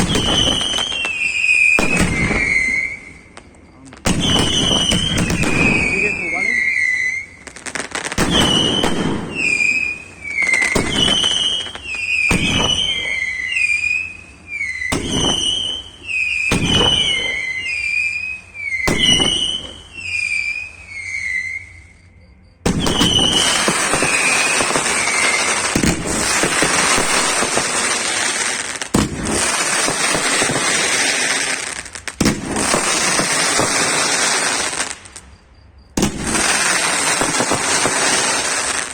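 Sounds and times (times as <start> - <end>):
fireworks bangs: 0.0 - 38.9
fireworks crackling barrage: 0.0 - 38.9
whistling fireworks: 0.0 - 38.9.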